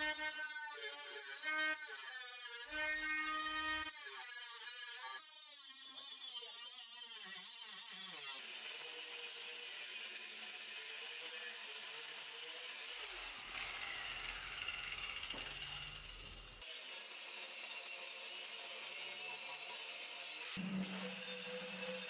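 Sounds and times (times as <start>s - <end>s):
cut-off tool grinding steel: 0.0s - 22.0s.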